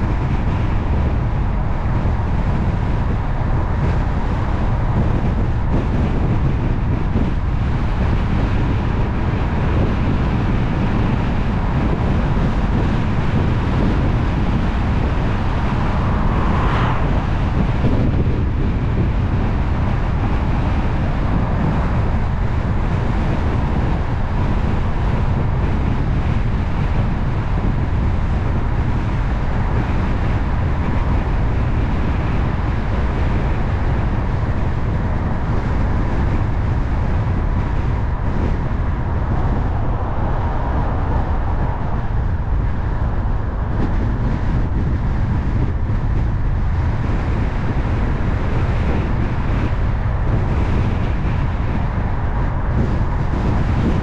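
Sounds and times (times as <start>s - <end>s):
car tyre and wind noise: 0.0s - 54.0s.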